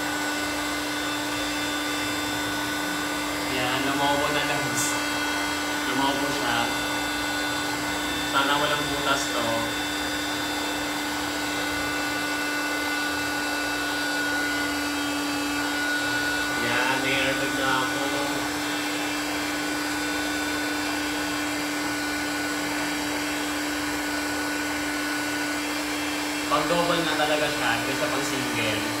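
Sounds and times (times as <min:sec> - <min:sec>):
electric air pump humming: 0:00.0 - 0:29.0.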